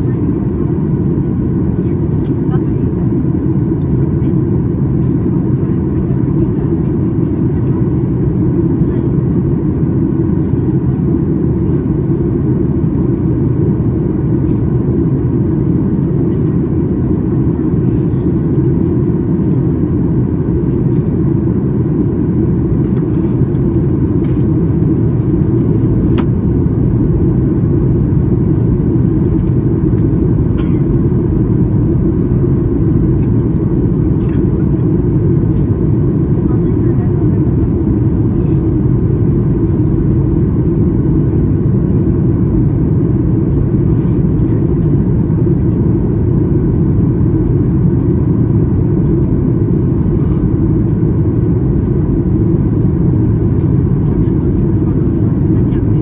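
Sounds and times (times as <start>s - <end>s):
airliner cabin engine roar: 0.0s - 56.0s.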